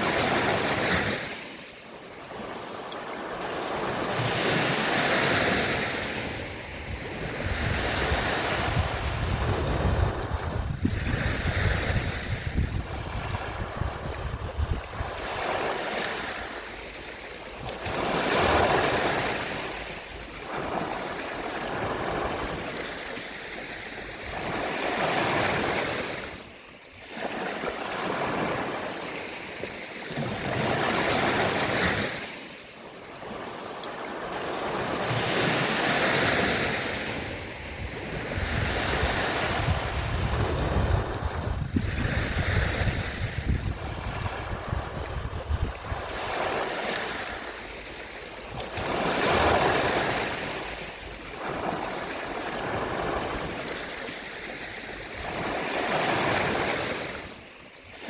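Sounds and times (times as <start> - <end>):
sea waves washing onto shore: 0.0 - 58.0.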